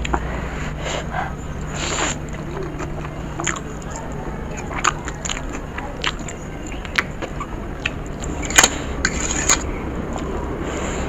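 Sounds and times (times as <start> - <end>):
eating clicks and scrapes: 0.0 - 11.0
steady low hum: 0.0 - 11.0.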